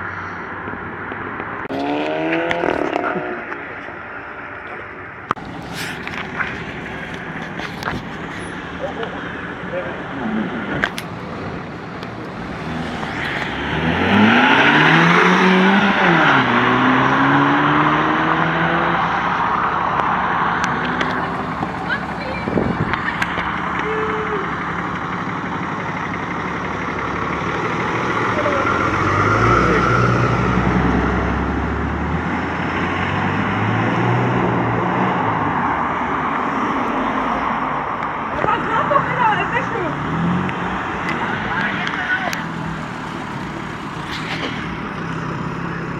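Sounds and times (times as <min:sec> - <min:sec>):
car engine accelerating: 0:00.8 - 0:45.9.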